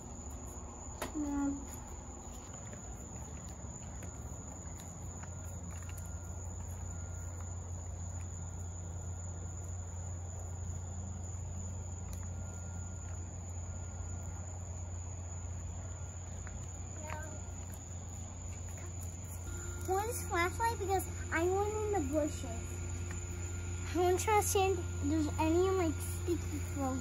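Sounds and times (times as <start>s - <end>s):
crickets trilling: 0.0s - 27.0s
low steady rumble: 0.0s - 27.0s.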